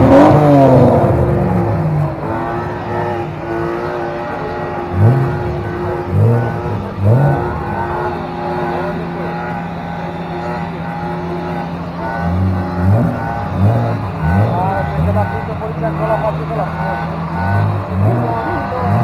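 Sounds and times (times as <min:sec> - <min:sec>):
car engine idling: 0:00.0 - 0:19.0
car engine revving: 0:00.0 - 0:19.0.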